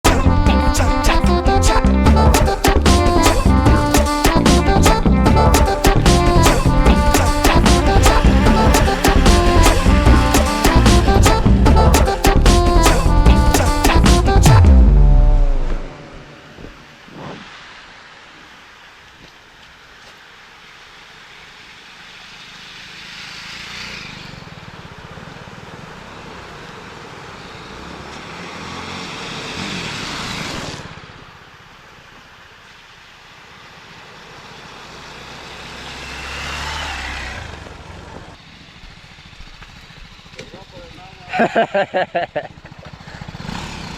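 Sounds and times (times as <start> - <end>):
off-road motorcycles passing: 2.4 - 17.6, 19.9 - 43.9.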